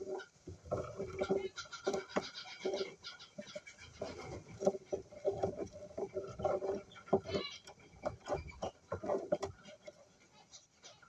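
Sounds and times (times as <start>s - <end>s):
birds scratching in wood shavings: 0.0s - 11.0s.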